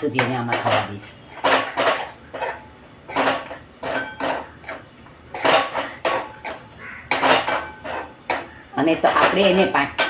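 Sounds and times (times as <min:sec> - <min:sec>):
spoon scraping and knocking on pan: 0:00.0 - 0:10.0.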